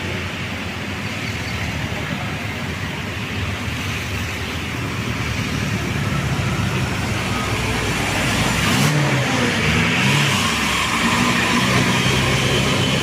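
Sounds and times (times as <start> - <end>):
bus engine climbing hill: 0.0 - 13.0.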